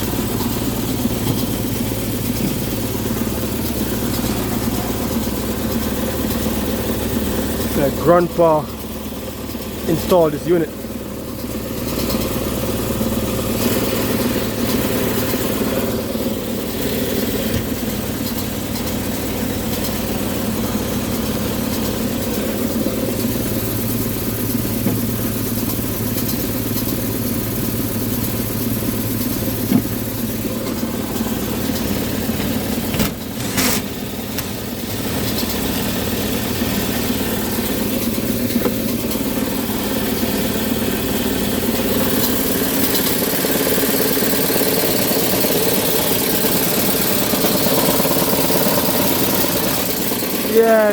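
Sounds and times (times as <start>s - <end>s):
furnace blower humming: 0.0s - 50.9s.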